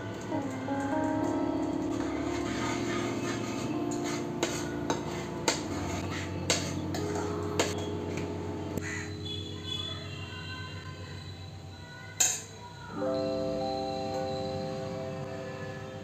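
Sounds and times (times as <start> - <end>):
background music: 0.0 - 10.7, 13.0 - 16.0.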